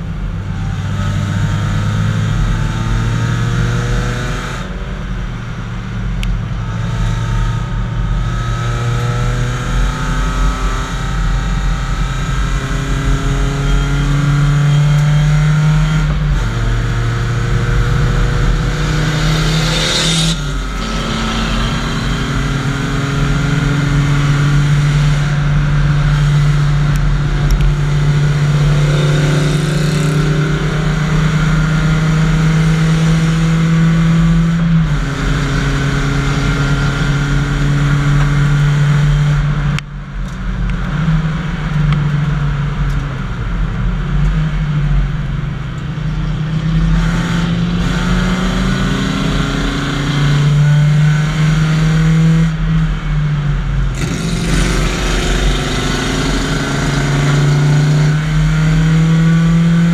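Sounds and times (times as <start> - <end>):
race car engine from inside cabin: 0.0 - 59.9.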